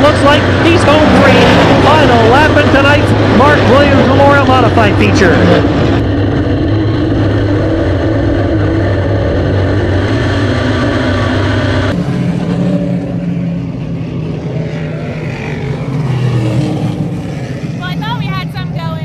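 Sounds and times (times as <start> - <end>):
race car engine running hard: 0.0 - 19.0
race cars droning around track: 0.0 - 19.0.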